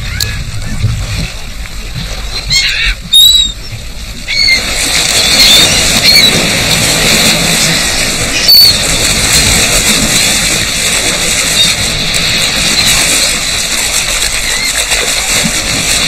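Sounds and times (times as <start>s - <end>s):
gulls calling: 0.0s - 1.0s, 1.9s - 16.0s
water surging and splashing: 0.0s - 16.0s.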